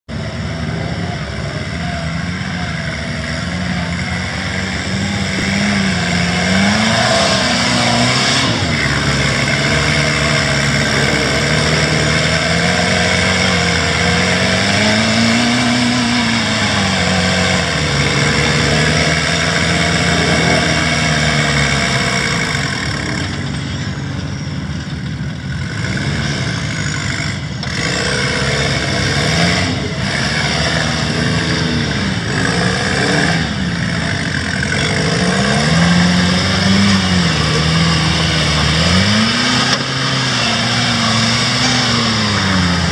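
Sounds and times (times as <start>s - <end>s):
buggy engine revving: 0.0s - 42.9s.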